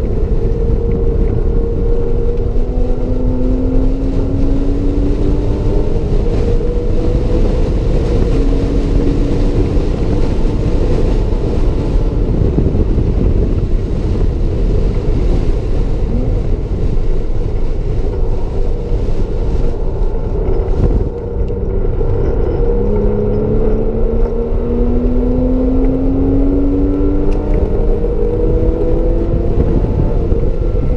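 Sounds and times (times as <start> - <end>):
car engine revving and shifting: 0.0 - 30.9
road and wind noise: 0.0 - 30.9.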